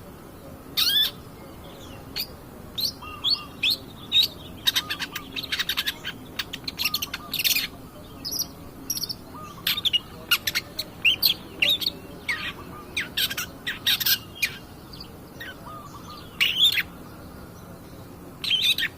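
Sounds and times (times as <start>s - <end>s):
shrike singing: 0.0s - 18.9s.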